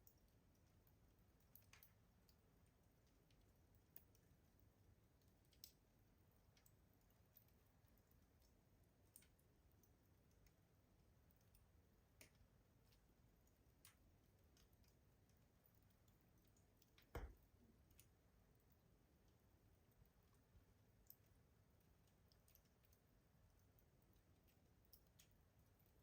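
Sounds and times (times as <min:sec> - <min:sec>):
wood fire crackling in a stove: 0:00.0 - 0:26.0.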